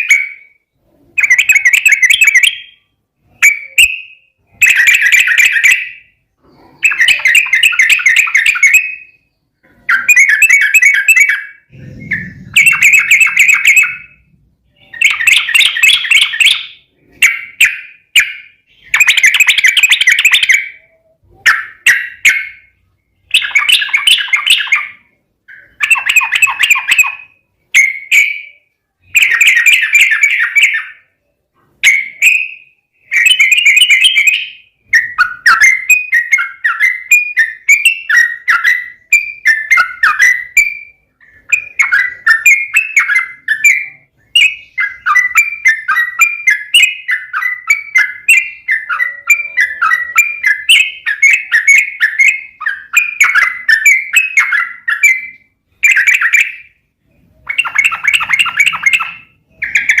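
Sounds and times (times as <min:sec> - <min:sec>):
bulbul chattering song: 0:00.0 - 1:00.0.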